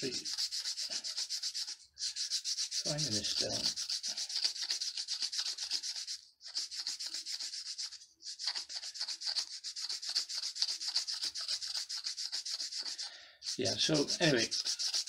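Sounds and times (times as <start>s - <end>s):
sandpaper rasping on wood: 0.0s - 15.0s.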